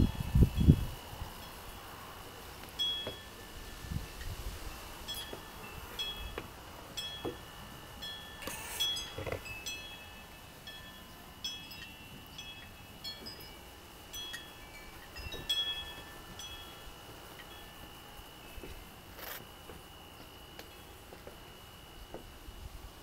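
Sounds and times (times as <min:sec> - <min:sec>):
wind chimes ringing: 0:00.0 - 0:22.9.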